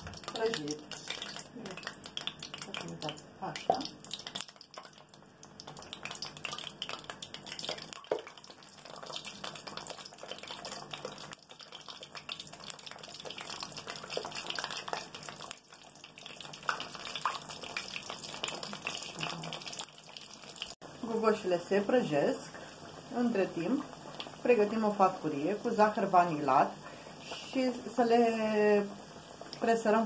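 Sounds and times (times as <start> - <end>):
dough sizzling in hot oil: 0.0 - 30.0.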